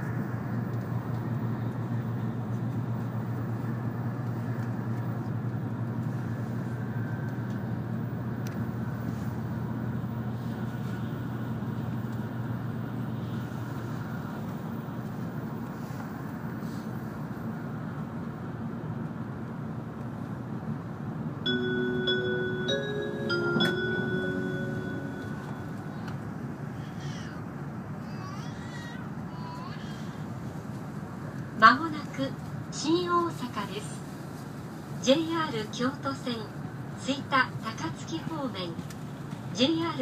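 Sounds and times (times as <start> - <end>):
train cabin hum: 0.0 - 40.0.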